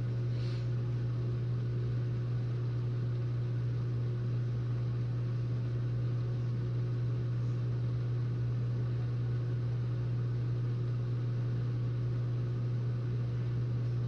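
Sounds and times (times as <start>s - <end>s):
dishwasher pump humming: 0.0s - 14.0s.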